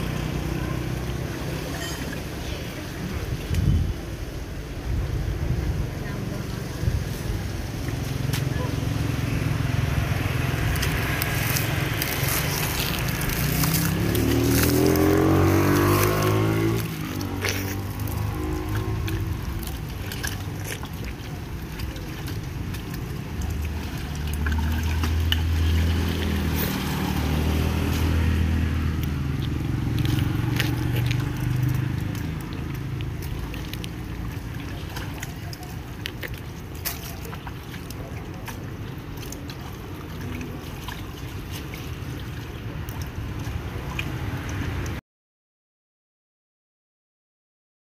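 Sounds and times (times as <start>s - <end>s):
hands squelching in wet mud: 6.6s - 45.0s.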